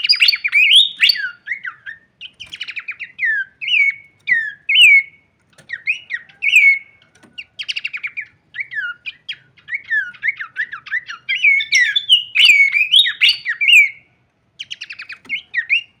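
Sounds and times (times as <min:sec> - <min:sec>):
bird singing whistled phrases: 0:00.0 - 0:07.0, 0:07.6 - 0:16.0.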